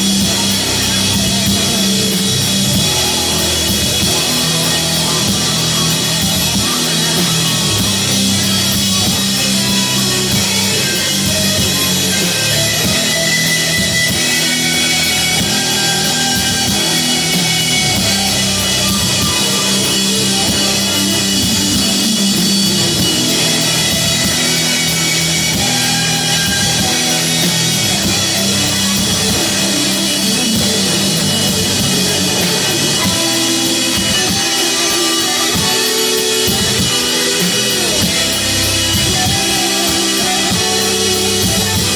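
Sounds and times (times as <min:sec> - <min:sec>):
distorted guitar and bass chords: 0:00.0 - 0:41.9
drum kit: 0:00.0 - 0:41.9
heavy metal band playing: 0:00.0 - 0:41.9.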